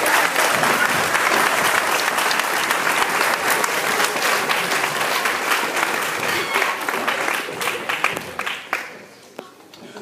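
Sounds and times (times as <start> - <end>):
people clapping: 0.0 - 9.8.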